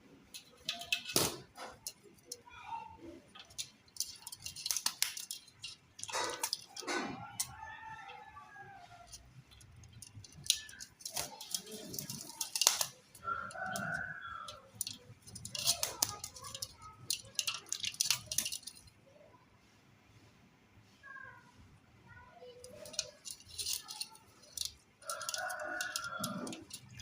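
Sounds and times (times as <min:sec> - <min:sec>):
rapid clicking and rattling: 0:00.2 - 0:18.9, 0:22.4 - 0:27.0.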